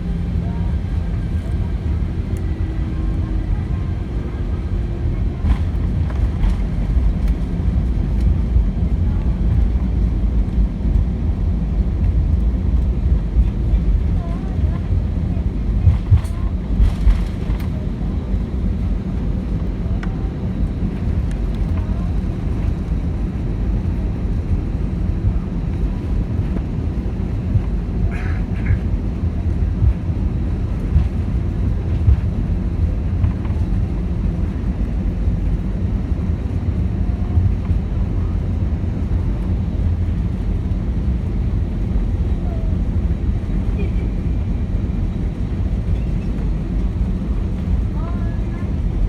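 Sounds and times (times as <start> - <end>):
airplane cabin low rumble: 0.0 - 49.0.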